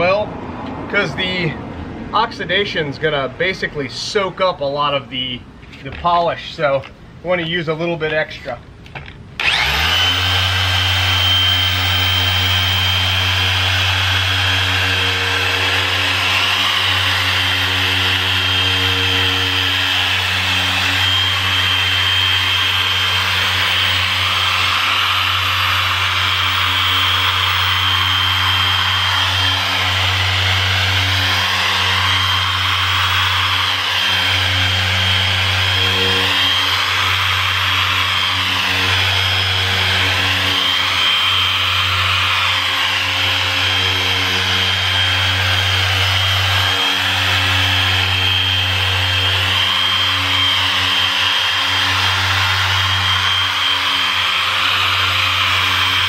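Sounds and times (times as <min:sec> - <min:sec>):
car polisher motor whine: 0:08.9 - 0:56.0.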